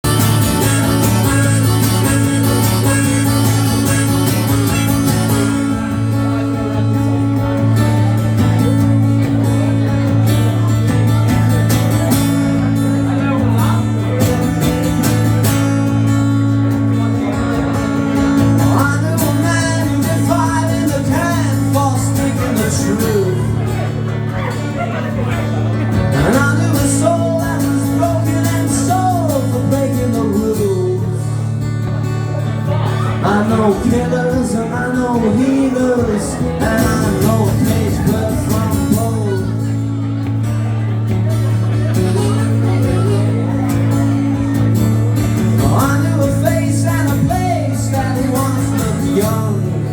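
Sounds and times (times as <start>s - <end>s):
acoustic guitar strumming: 0.0s - 49.9s.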